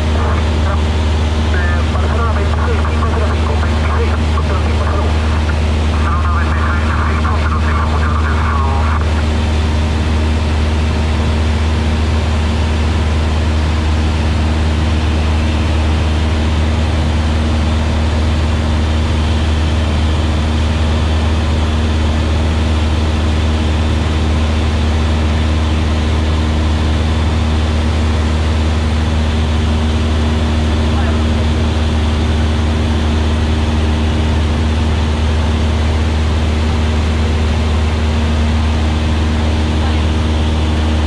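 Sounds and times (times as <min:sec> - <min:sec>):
aircraft engine and propeller droning: 0:00.0 - 0:41.0.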